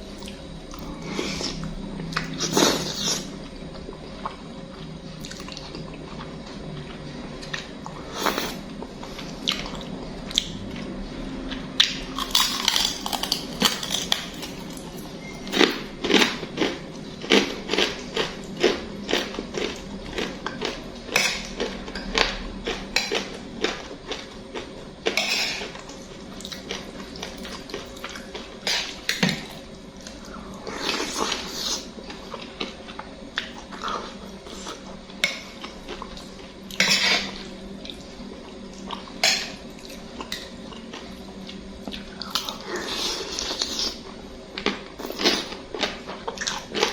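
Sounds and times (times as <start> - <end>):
chewing and slurping noodles: 0.2 - 10.9, 11.8 - 39.1, 39.7 - 46.9.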